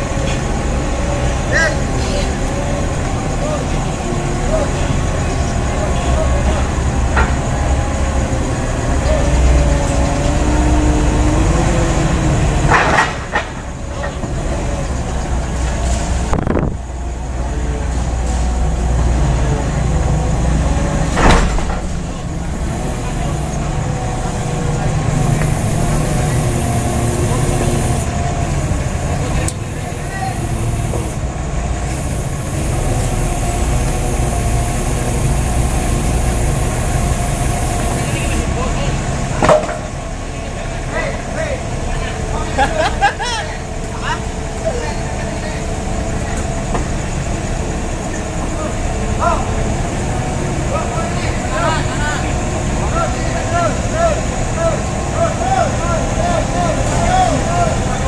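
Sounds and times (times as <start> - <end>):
forklift engines rumbling: 0.0 - 58.0.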